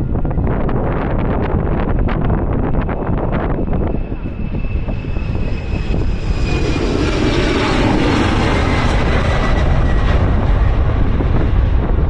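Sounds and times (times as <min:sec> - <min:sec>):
jet engines with high whine: 0:00.0 - 0:12.0
wind buffeting microphone: 0:00.0 - 0:12.0.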